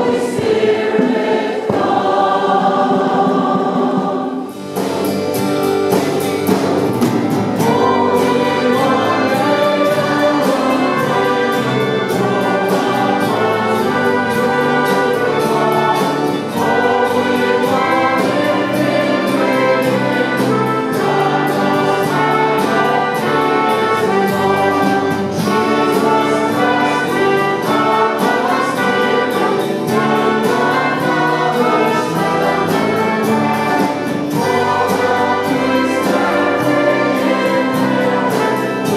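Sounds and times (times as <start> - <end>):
brass ensemble playing worship music: 7.4 - 38.9.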